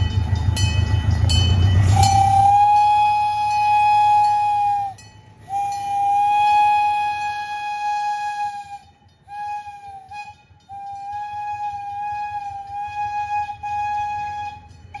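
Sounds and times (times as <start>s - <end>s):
train whistle blasts: 1.8s - 15.0s.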